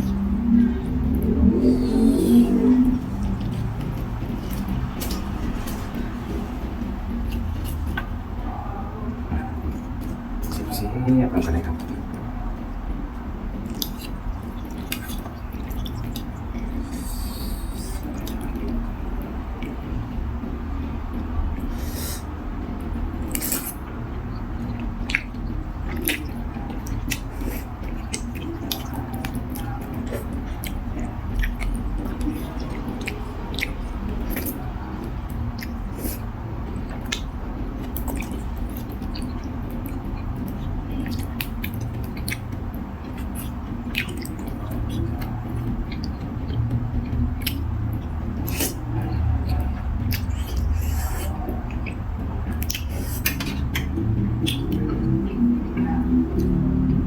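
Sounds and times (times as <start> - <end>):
person chewing: 0.0 - 8.4, 13.6 - 18.9, 21.6 - 55.6
steady low hum: 0.0 - 57.0.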